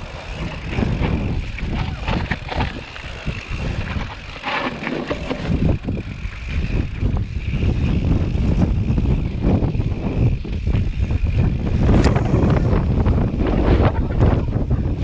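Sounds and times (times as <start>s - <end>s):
tyres on dirt: 0.0s - 14.4s
bike clattering and rattling: 0.0s - 15.0s
wind on microphone: 0.0s - 15.0s.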